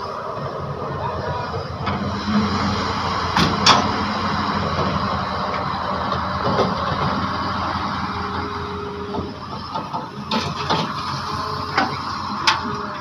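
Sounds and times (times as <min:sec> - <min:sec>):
heavy diesel machinery running: 0:00.0 - 0:13.0.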